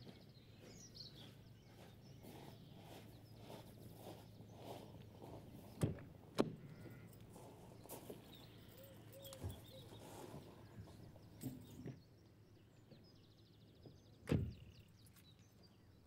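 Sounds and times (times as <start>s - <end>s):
faint birdsong: 0.0s - 16.0s.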